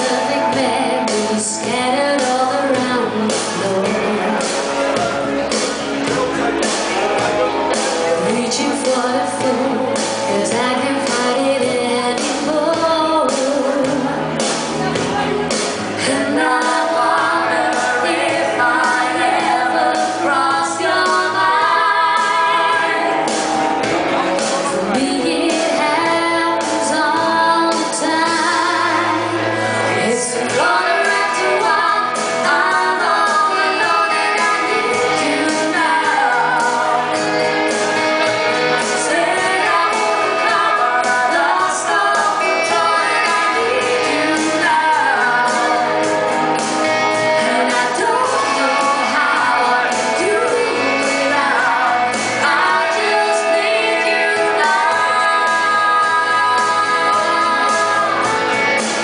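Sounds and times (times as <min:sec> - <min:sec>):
woman singing: 0:00.0 - 0:05.1, 0:08.2 - 0:15.3, 0:15.9 - 0:23.6, 0:24.7 - 0:37.8, 0:38.6 - 0:59.0
instrumental accompaniment: 0:00.0 - 0:59.0.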